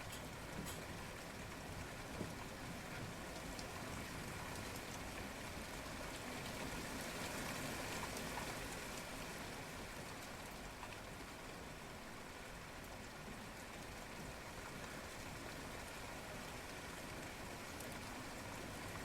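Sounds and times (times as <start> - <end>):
raindrops ticking on surfaces: 0.0 - 19.0
steady rain hiss: 0.0 - 19.0.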